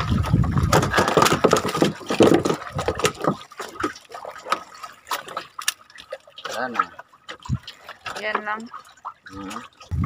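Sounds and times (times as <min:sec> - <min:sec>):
water splashing and dribbling: 0:00.0 - 0:10.0.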